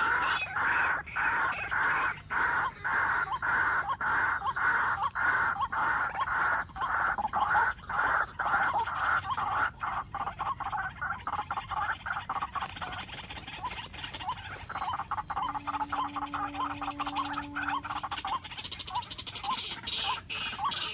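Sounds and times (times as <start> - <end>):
bird croaking calls: 0.0 - 20.9.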